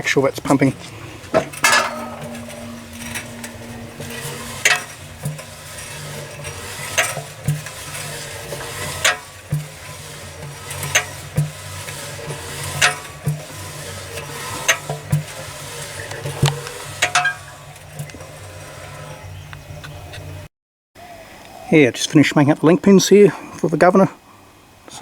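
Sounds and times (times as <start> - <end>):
diesel engine turned by hand: 0.0 - 20.5
low steady hum: 0.3 - 20.4.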